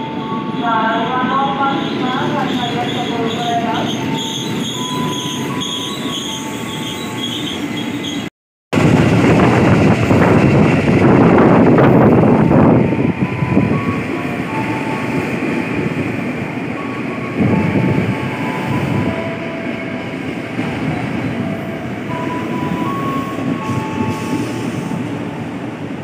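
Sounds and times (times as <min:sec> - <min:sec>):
train wheels rumbling on rail: 0:01.4 - 0:26.0.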